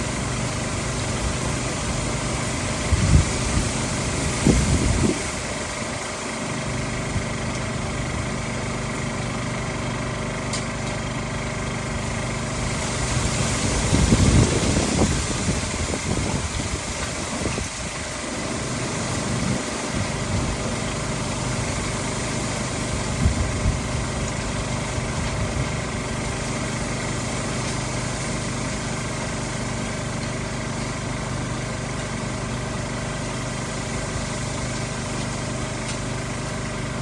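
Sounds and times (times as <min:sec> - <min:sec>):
generator humming: 0:00.0 - 0:37.0.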